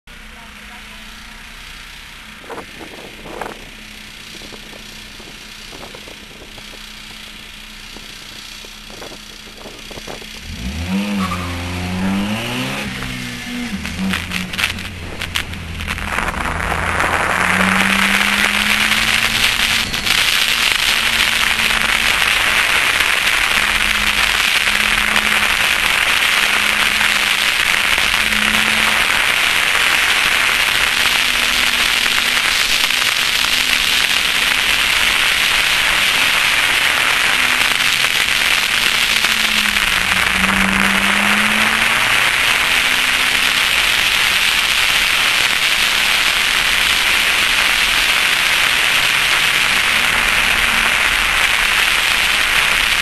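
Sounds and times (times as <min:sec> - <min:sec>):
faint car engine: 0:00.0 - 0:53.0
wind and road noise: 0:00.0 - 0:53.0.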